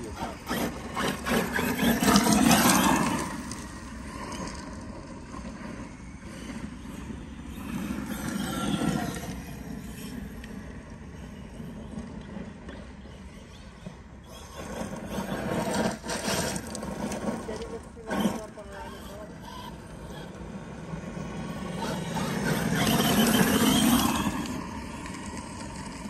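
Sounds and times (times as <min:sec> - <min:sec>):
tyres on gravel: 0:00.0 - 0:13.2, 0:13.9 - 0:26.0
electric motor whine: 0:00.0 - 0:26.0.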